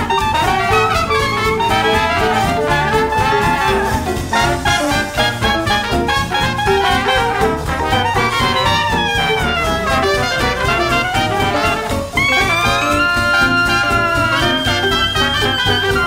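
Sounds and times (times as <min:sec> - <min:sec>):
jazzy swing music with brass: 0:00.0 - 0:16.0.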